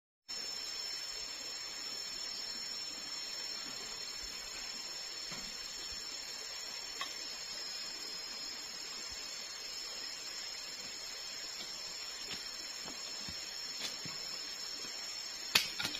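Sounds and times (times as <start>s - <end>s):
faint hiss: 0.3s - 15.9s
forest insects droning: 0.3s - 15.9s.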